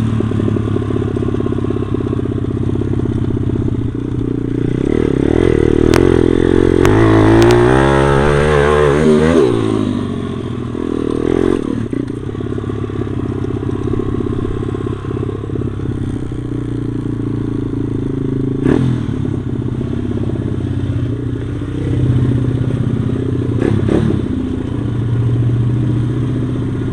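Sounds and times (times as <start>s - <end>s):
motorbike engine revving: 0.0s - 26.9s.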